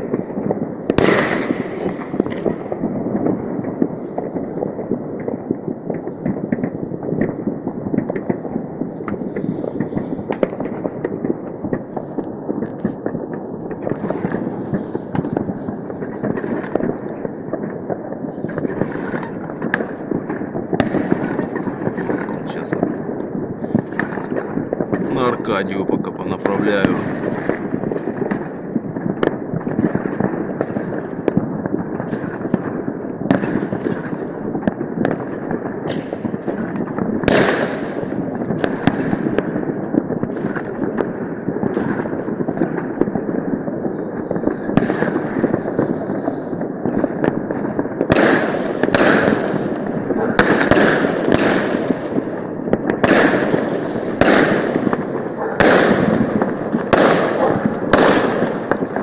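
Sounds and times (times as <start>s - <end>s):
firecrackers crackling: 0.0s - 59.0s
firework bangs: 0.0s - 59.0s.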